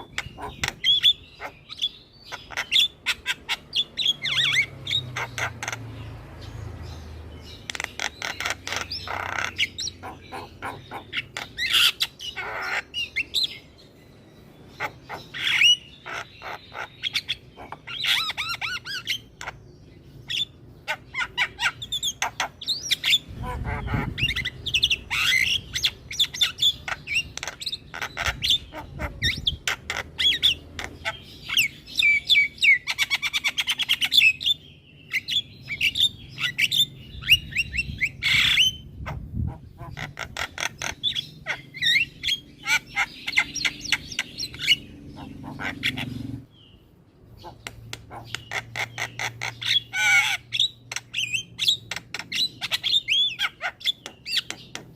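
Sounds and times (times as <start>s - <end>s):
myna bird singing: 0.0s - 54.9s.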